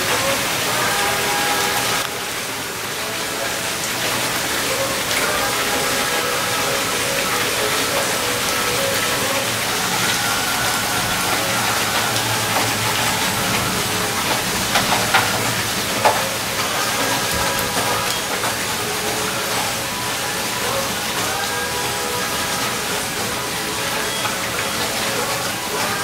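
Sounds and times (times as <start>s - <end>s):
heavy rain on concrete: 0.0s - 26.0s.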